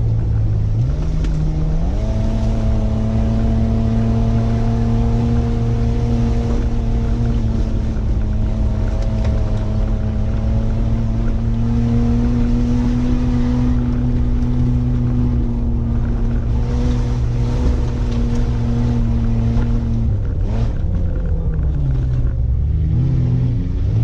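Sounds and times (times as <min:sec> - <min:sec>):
car engine from inside cabin: 0:00.0 - 0:24.0.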